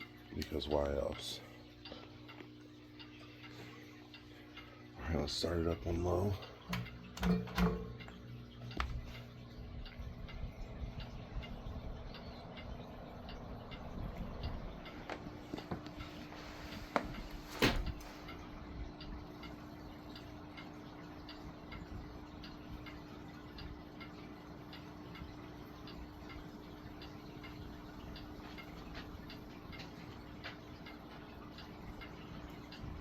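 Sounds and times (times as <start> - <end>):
fan motor hum with ticking: 0.0 - 33.0.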